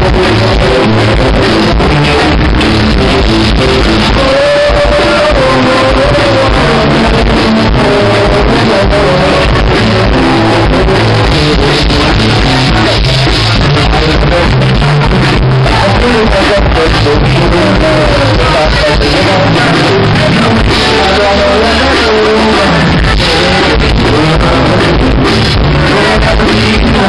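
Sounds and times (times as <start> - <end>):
live band playing with singing: 0.0 - 27.0
steady bass line: 0.0 - 27.0.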